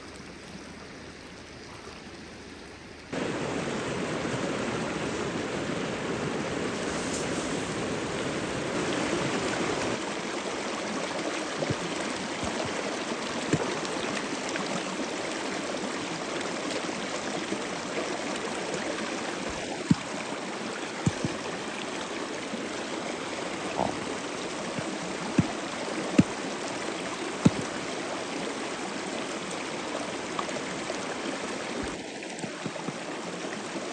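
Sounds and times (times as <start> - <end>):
stream water rushing: 3.1 - 33.9.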